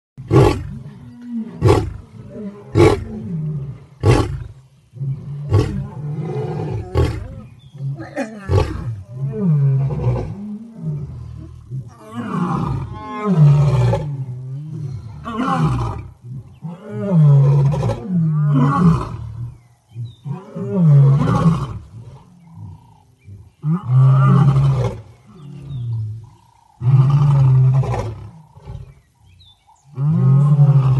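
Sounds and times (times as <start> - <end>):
lion roaring: 0.2 - 30.9.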